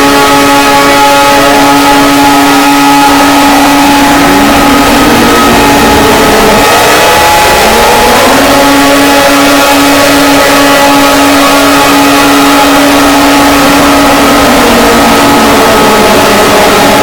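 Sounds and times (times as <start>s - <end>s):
electronic emergency alert alarm: 0.0s - 17.0s.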